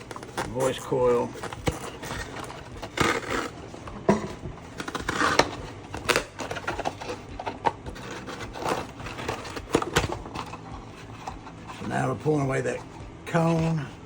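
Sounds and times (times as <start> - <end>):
blade cutting paper cone: 0.0 - 13.8
scraping and crackling: 0.0 - 14.0.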